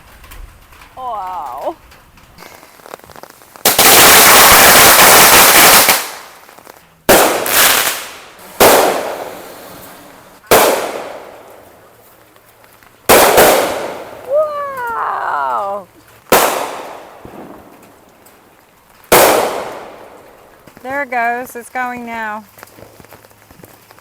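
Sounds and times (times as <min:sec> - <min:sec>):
fireworks bangs: 0:00.0 - 0:24.0
fireworks crackling hiss: 0:00.0 - 0:24.0.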